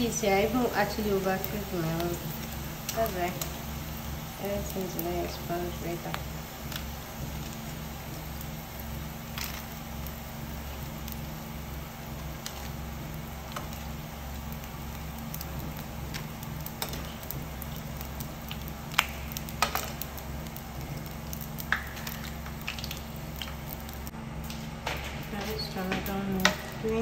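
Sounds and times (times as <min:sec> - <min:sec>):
crackers sizzling in hot oil: 0:00.0 - 0:27.0
low steady hum: 0:00.0 - 0:27.0.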